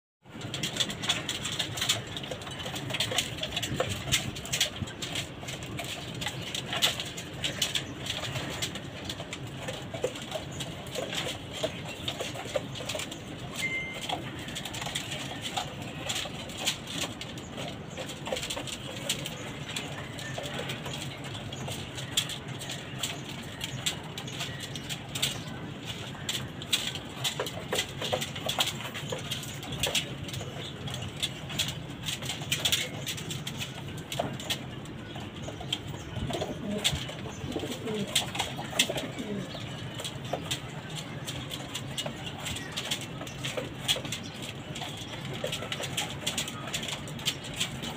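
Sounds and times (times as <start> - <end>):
pigeons cooing: 0.4 - 47.9.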